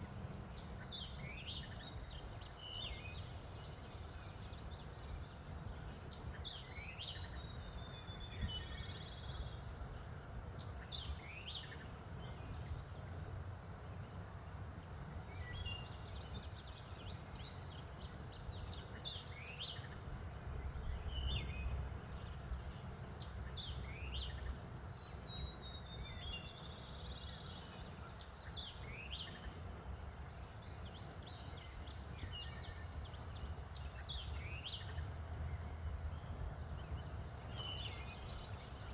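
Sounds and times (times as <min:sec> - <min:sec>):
songbirds singing: 0:00.0 - 0:38.9
steady low rumble: 0:00.0 - 0:38.9.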